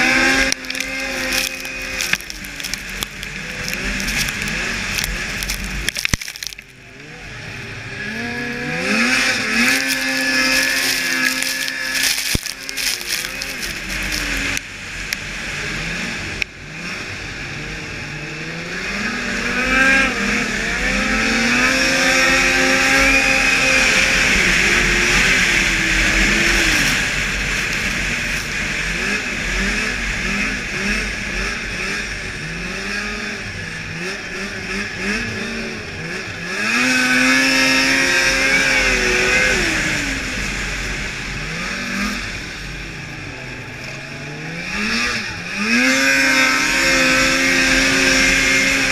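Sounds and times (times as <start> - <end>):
snowmobile engine revving: 0.0 - 48.9
wind and track noise: 0.0 - 48.9.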